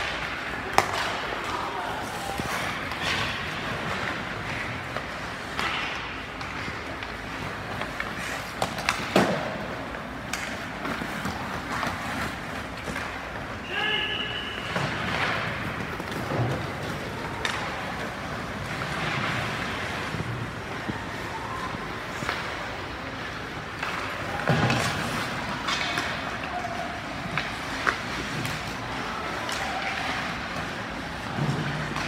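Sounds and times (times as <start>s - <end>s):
noisy hubbub: 0.0s - 32.0s.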